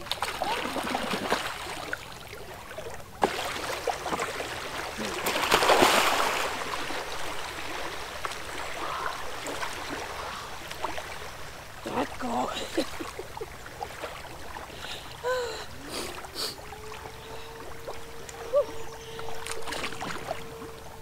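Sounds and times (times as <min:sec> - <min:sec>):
river water splashing: 0:00.0 - 0:21.0.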